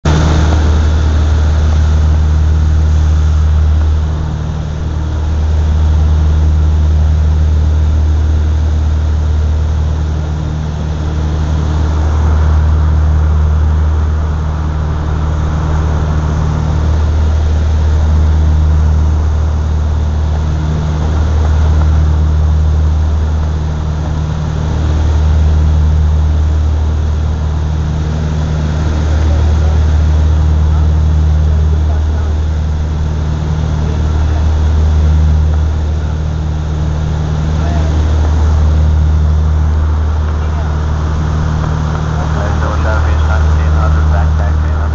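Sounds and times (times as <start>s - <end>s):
propeller aircraft cabin drone: 0.0s - 44.9s.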